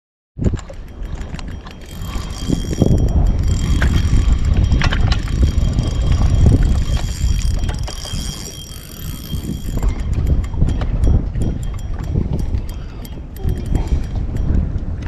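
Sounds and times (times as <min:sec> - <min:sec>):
wind buffeting microphone: 0:00.4 - 0:15.0
fishing reel whirring: 0:00.5 - 0:14.6.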